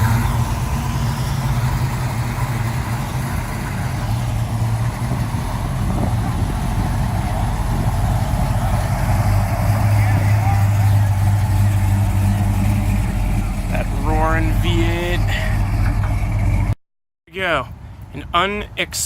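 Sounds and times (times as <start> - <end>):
car engine idling: 0.0 - 16.8.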